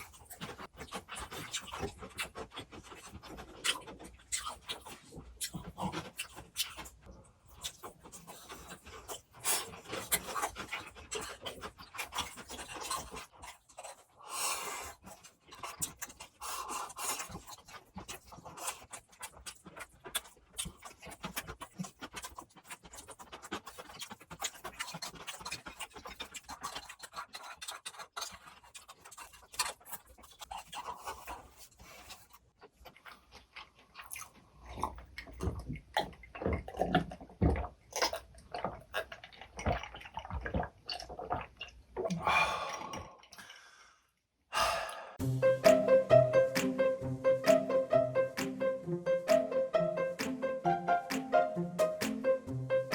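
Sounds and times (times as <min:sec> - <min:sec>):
chewing and mouth sounds: 0:00.0 - 0:43.6.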